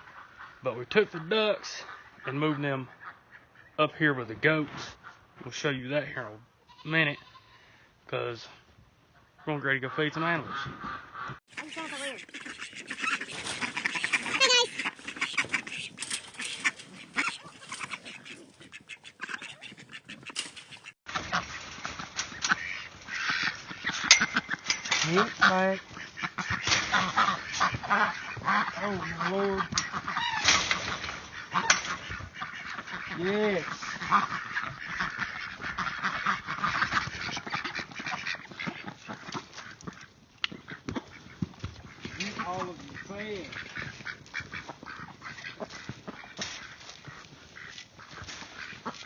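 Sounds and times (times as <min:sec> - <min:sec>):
ducks quacking: 0:00.0 - 0:49.0.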